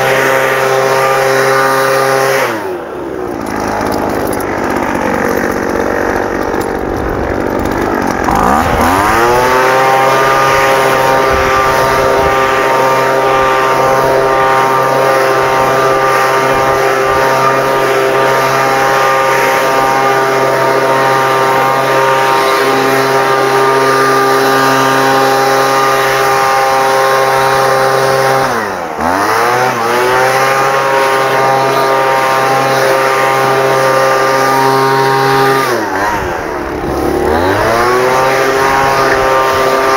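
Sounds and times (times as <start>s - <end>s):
small gasoline engine revving: 0.0s - 39.9s.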